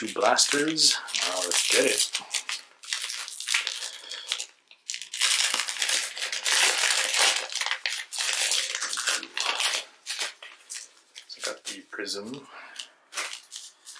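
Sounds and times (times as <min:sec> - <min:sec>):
plastic wrapper crinkling: 0:00.0 - 0:13.9.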